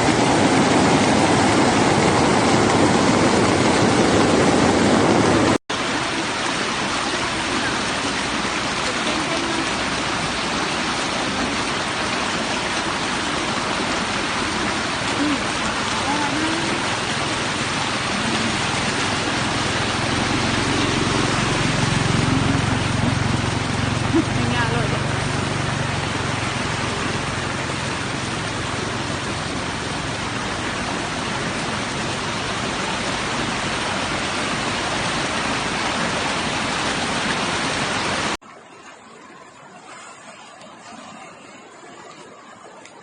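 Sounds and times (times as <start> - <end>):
vehicle engine humming: 0.0 - 38.4
floodwater rushing: 0.0 - 43.0.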